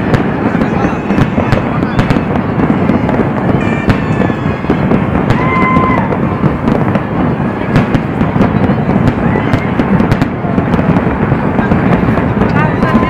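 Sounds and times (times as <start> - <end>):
firework whistle: 0.0 - 13.0
fireworks booming and crackling: 0.0 - 13.0.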